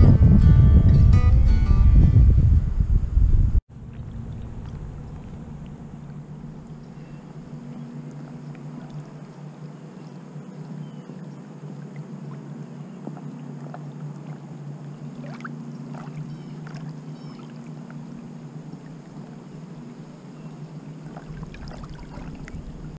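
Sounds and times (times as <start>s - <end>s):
water lapping: 3.7s - 22.9s.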